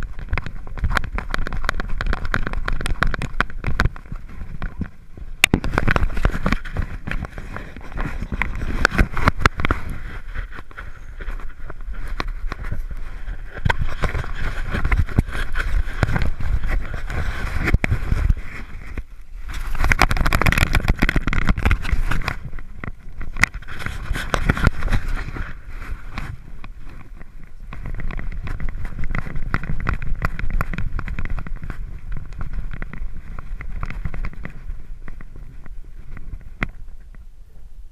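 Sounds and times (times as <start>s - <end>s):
camera rubbing and bumping: 0.0s - 37.1s.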